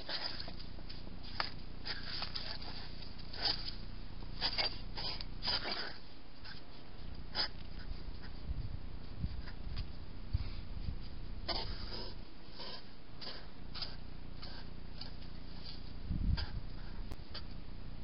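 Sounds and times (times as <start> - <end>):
hedgehogs huffing and snorting: 0.0 - 8.5, 11.4 - 17.5.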